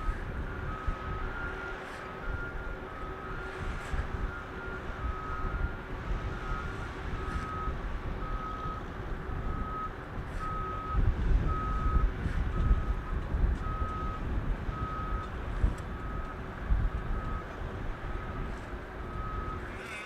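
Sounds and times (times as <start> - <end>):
wind buffeting microphone: 0.0 - 19.8
reversing alarm beeps: 0.0 - 20.0.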